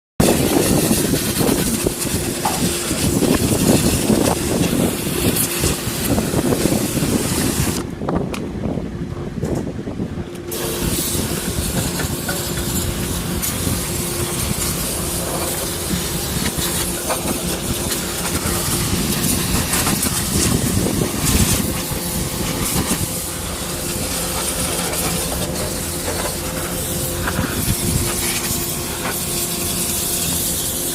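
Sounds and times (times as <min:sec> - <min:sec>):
pressure washer spraying: 0:00.2 - 0:07.9, 0:10.5 - 0:30.9
constant hum: 0:00.2 - 0:30.9.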